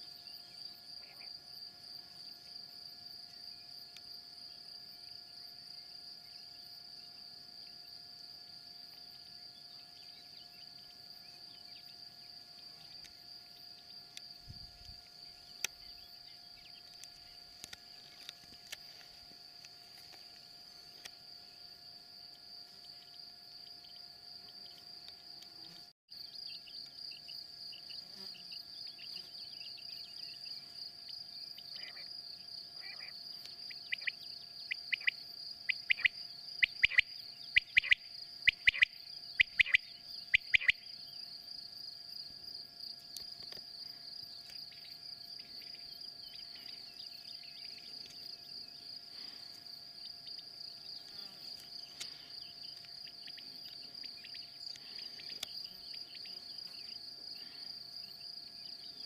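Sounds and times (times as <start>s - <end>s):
cricket trill: 0.0s - 59.0s.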